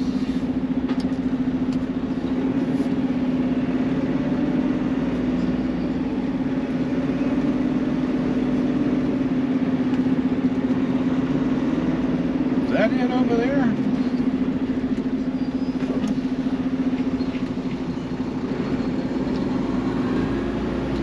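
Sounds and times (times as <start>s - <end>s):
diesel truck engine drone: 0.0s - 21.0s.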